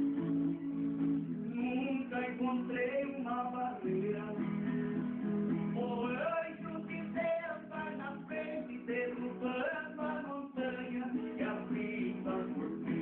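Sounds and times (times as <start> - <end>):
plucked and strummed folk guitar: 0.0 - 13.0.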